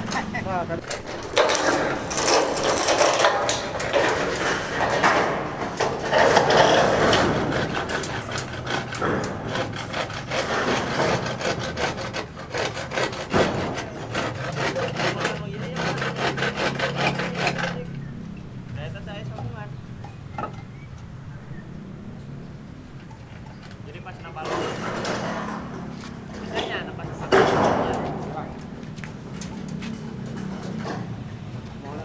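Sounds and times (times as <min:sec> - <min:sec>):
wood being sawn: 0:00.0 - 0:18.3, 0:24.2 - 0:32.0.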